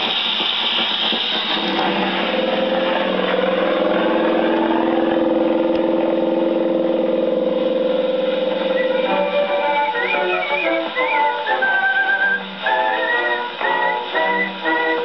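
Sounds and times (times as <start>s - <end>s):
record surface hiss: 0.0s - 15.0s
aeroplane sound effect drone: 1.1s - 15.0s.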